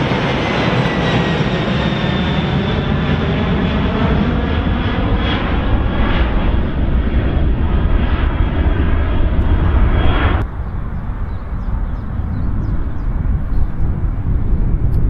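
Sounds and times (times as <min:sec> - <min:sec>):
high engine whine: 0:00.0 - 0:15.0
jet engine rumble: 0:00.0 - 0:15.0.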